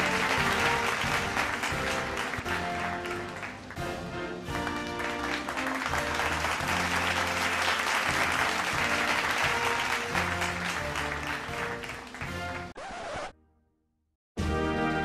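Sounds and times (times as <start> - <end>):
applause: 0.0 - 12.7.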